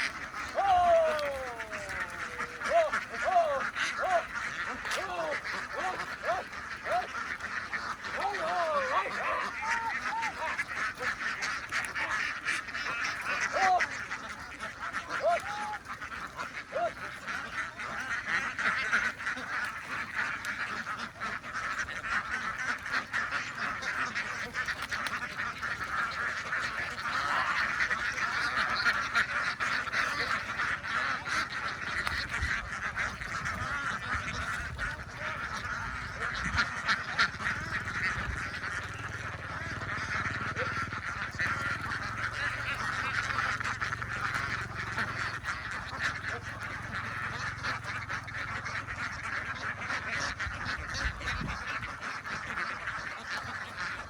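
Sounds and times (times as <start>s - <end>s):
ducks quacking: 0.0s - 54.0s.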